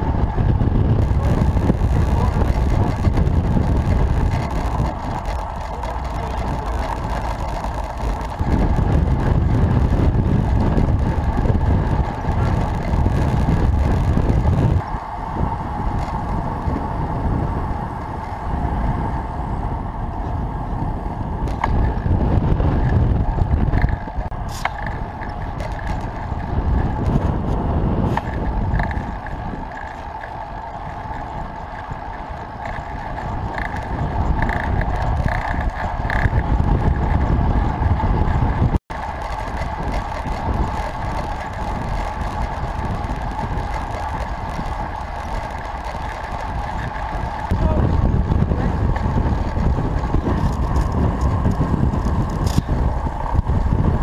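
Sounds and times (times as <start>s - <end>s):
bike tyres rumbling on road: 0.0s - 54.0s
wind buffeting microphone: 0.0s - 54.0s.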